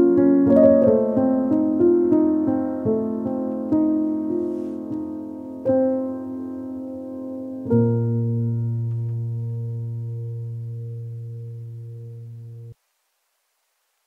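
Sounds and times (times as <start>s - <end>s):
slow piano chords: 0.0s - 12.8s.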